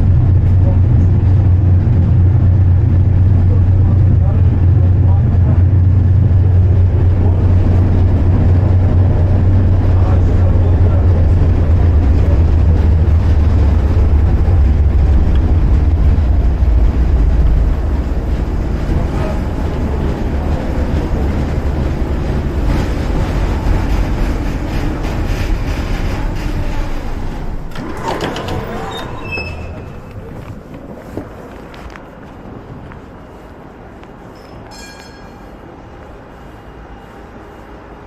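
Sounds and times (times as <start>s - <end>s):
tram rumbling on rails: 0.0s - 38.0s.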